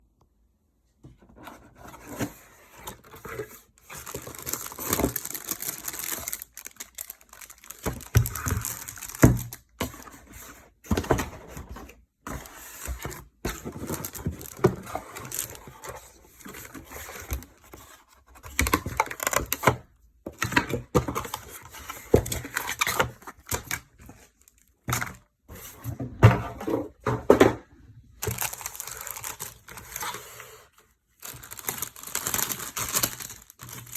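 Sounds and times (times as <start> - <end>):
cardboard and plastic crinkling: 1.6 - 27.6, 28.2 - 33.9.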